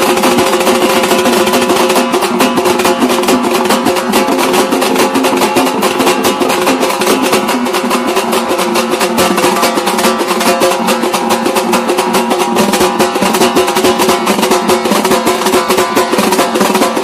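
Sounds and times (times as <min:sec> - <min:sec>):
music with fast drumbeat: 0:00.0 - 0:17.0.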